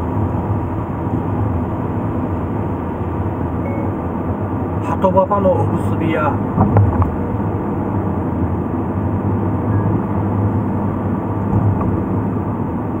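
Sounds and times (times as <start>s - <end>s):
car engine hum: 0.0s - 13.0s.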